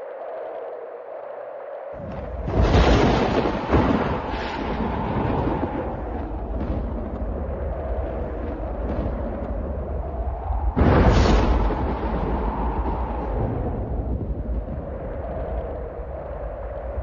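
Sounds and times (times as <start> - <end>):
thunder clap and rumble: 2.0 - 17.0.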